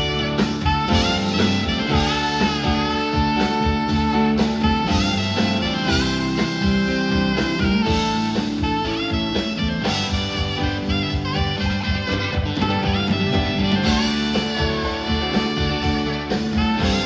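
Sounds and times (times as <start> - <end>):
saxophone melody: 0.0 - 17.0
soft rock band playing: 0.0 - 17.0.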